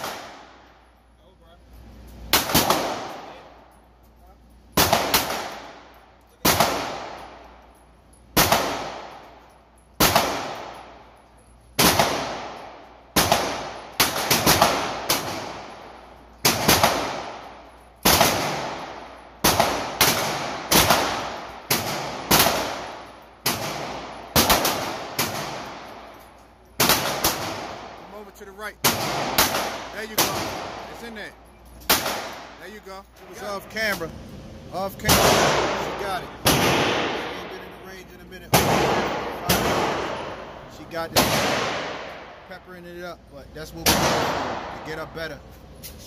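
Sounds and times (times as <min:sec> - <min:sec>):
pistol shots echoing indoors: 0:00.0 - 0:01.1, 0:01.8 - 0:03.8, 0:04.5 - 0:28.0, 0:28.8 - 0:32.6, 0:35.0 - 0:42.5, 0:43.7 - 0:45.2.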